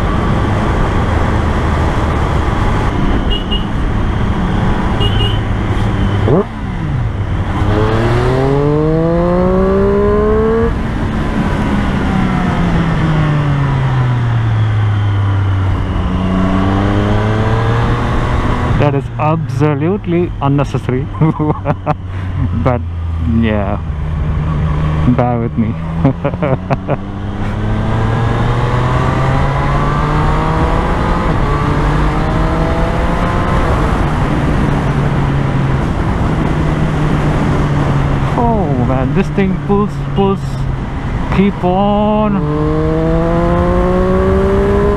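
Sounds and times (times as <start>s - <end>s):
motorcycle engine revving: 0.0s - 20.4s, 21.1s - 44.9s
road and wind noise: 0.0s - 44.9s.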